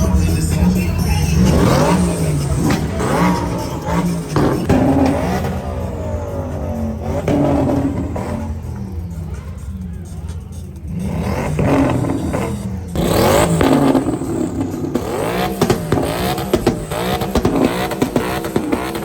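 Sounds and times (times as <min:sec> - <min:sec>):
car engines revving: 0:00.0 - 0:19.0
sharp exhaust cracks: 0:00.0 - 0:19.0.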